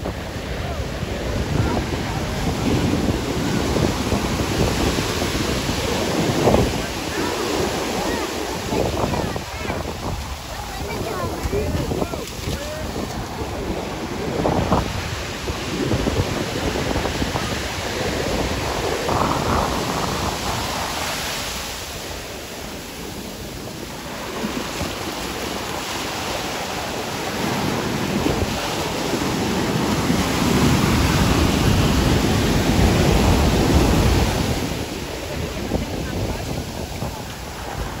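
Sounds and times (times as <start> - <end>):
ocean surf on beach: 0.0 - 38.0
wind buffeting microphone: 0.0 - 38.0.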